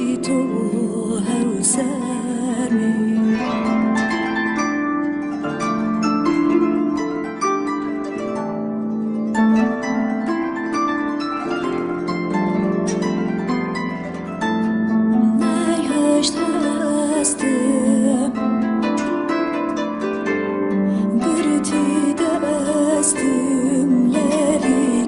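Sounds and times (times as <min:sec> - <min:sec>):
harp plucked notes: 0:00.0 - 0:25.0.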